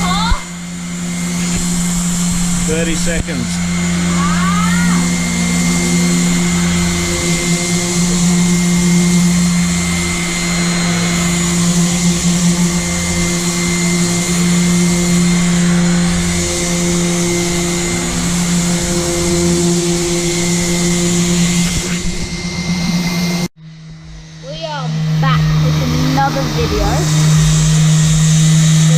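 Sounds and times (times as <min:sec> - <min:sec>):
electric power sander running: 0:00.0 - 0:28.9.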